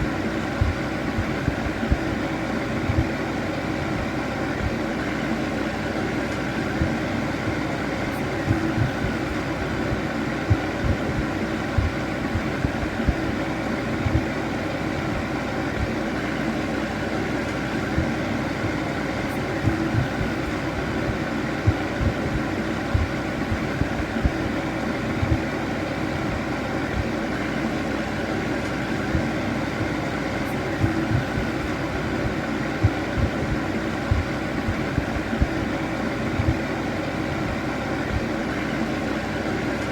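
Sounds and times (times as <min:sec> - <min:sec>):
fan heater whirring: 0:00.0 - 0:39.9.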